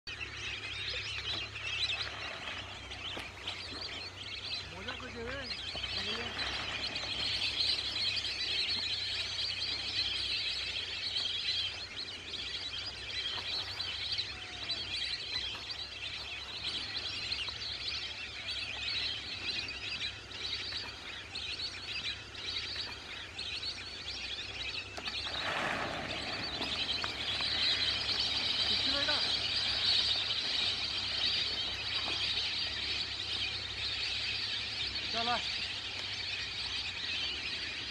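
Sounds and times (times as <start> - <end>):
ducks whistling: 0.1 - 37.9.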